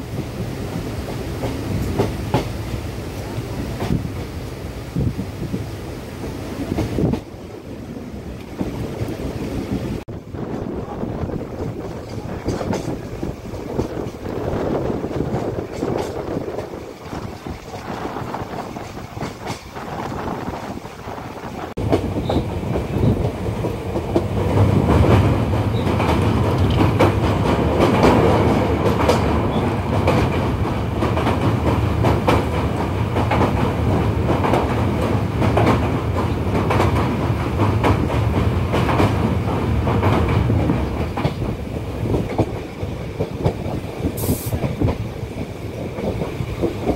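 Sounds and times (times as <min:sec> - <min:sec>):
train wheels clattering on rails: 0:00.0 - 0:07.7, 0:08.4 - 0:46.9.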